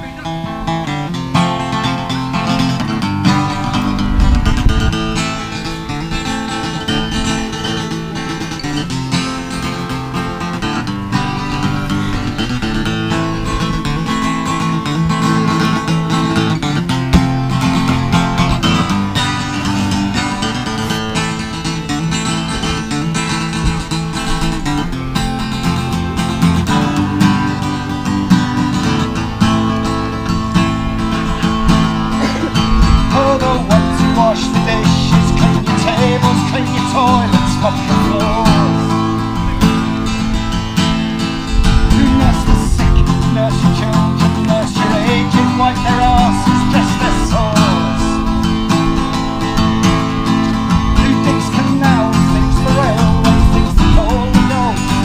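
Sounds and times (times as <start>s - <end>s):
pitch-bending melody line: 0.0s - 44.4s
acoustic guitar strumming: 0.0s - 55.0s.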